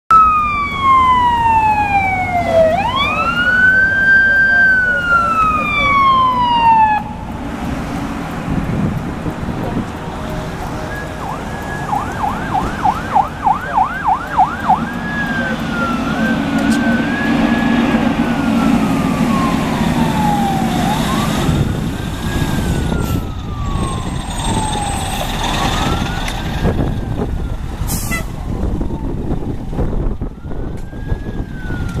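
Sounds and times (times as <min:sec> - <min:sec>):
fire engine siren: 0:00.1 - 0:32.0
fire truck engine rumble: 0:00.1 - 0:32.0.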